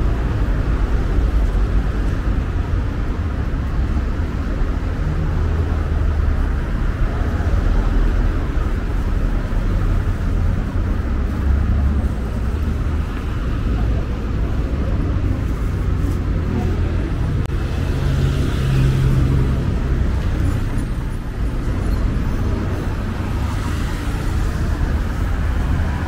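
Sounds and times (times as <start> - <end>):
vehicle rumble with hiss: 0.0 - 26.0.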